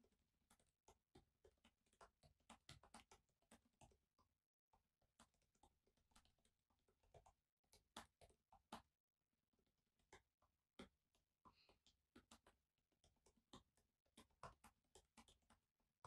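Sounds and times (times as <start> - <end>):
typing on laptop keyboard: 0.0 - 4.3, 5.0 - 8.9, 10.0 - 16.0.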